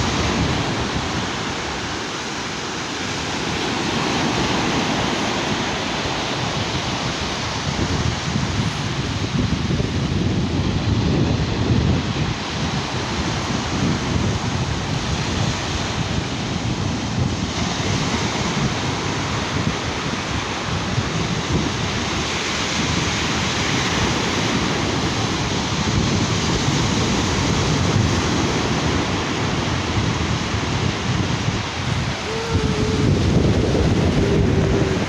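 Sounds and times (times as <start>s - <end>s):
sea surf washing onto beach: 0.0s - 35.0s
wind buffeting microphone: 0.0s - 35.0s.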